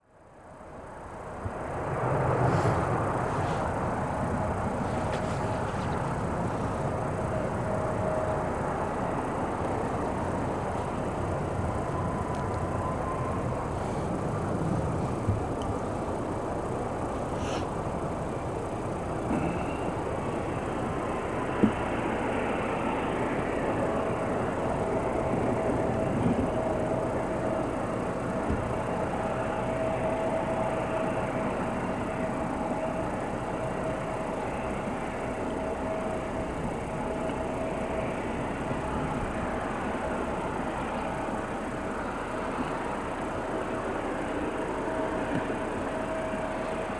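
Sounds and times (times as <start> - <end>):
faint steady whine: 0.0 - 46.9
aircraft engines running: 0.1 - 46.9.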